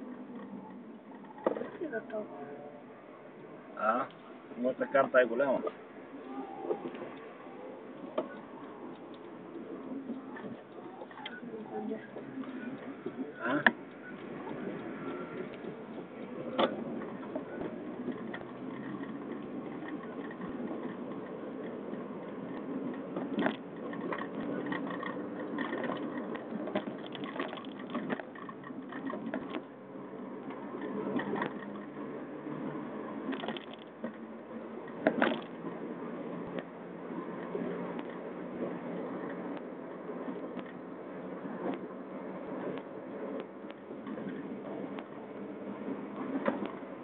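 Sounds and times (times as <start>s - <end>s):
car engine inside cabin: 0.0s - 47.0s
road noise: 0.0s - 47.0s.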